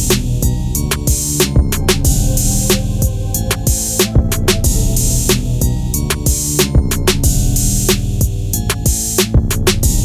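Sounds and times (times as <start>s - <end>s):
sustained bass line: 0.0s - 8.8s
drum machine beat: 0.0s - 10.0s.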